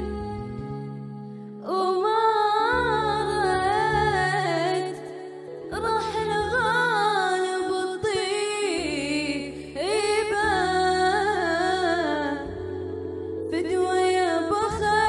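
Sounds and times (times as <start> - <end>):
girl singing: 0.0 - 12.6
sustained low backing notes: 0.0 - 15.0.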